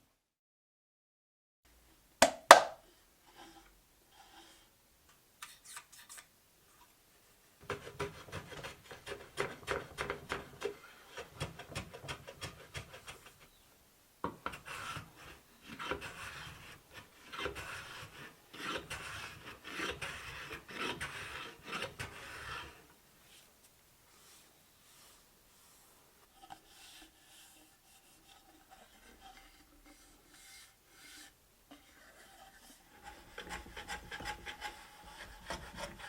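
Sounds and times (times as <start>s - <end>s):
wood scraping by hand: 3.2s - 4.7s, 7.6s - 13.6s, 14.3s - 36.0s.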